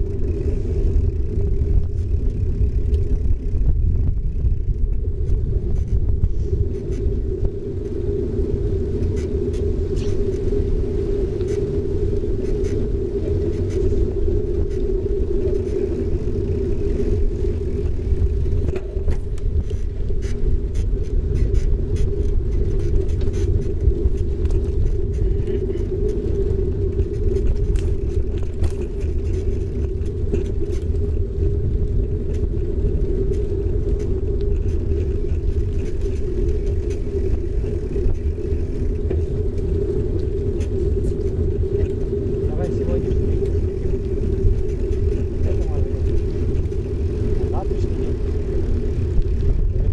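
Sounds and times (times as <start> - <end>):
bicycle tyres rumbling on asphalt: 0.0 - 49.9.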